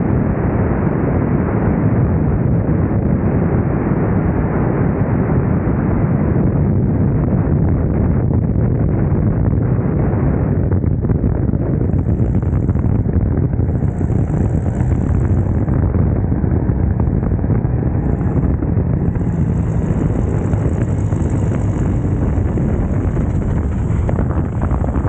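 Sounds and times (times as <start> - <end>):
light aircraft engine and propeller: 0.0 - 25.0
wind rush on microphone: 0.0 - 25.0.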